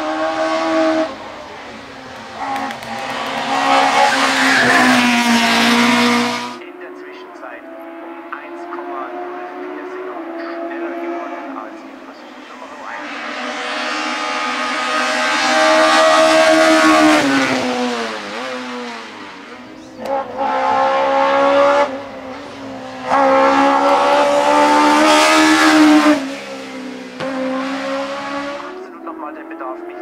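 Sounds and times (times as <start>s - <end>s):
racing car engine revving high: 0.0s - 30.0s.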